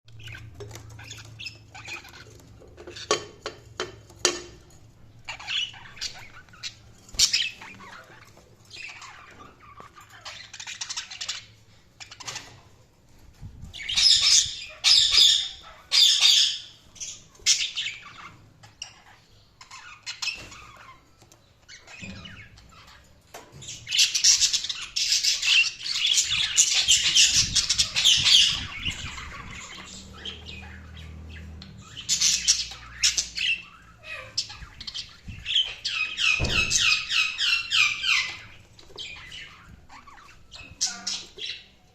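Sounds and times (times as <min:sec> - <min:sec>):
budgerigars chirping and squawking: 0:00.1 - 0:41.9.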